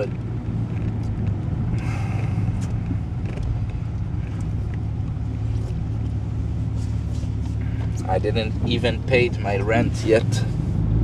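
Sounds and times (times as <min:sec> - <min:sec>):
vehicle engine drone and road noise: 0:00.0 - 0:11.0.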